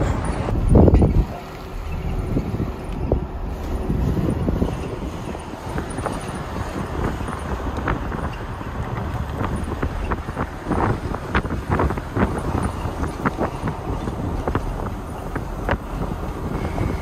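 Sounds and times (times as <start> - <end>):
car road rumble: 0.0 - 17.0
wind buffeting microphone: 0.0 - 17.0.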